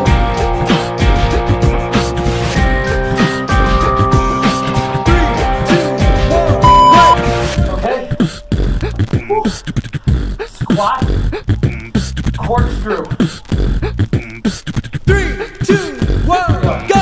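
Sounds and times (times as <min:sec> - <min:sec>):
upbeat music with chopped vocals: 0:00.0 - 0:17.0.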